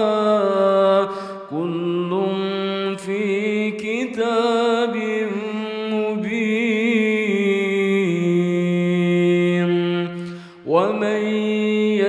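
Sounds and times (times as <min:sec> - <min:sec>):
person reciting melodically: 0:00.0 - 0:12.0.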